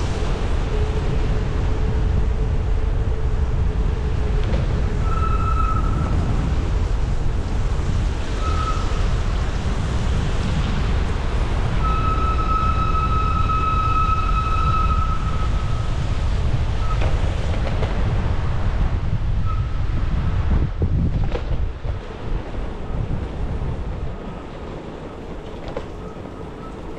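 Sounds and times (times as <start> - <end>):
wind rushing over microphone: 0.0 - 26.9.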